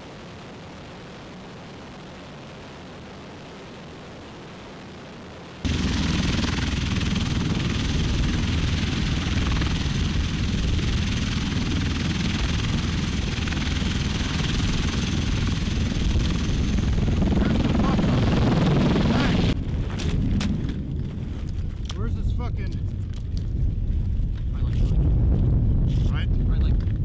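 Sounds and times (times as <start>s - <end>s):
aircraft engines and rotors rumbling: 0.0s - 27.0s
high turbine whine: 0.0s - 27.0s.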